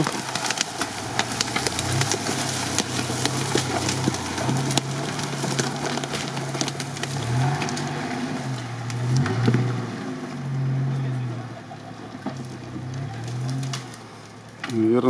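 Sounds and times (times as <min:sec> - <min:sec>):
sharp cracks and clicks: 0:00.0 - 0:09.8, 0:12.2 - 0:14.8
car engine revving: 0:00.0 - 0:14.9.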